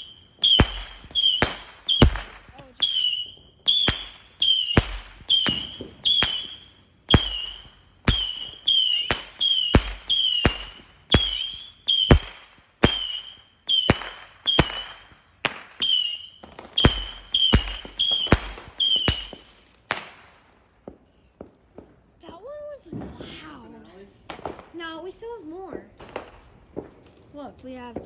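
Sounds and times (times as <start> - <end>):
firework bangs with whistles: 0.0 - 28.0.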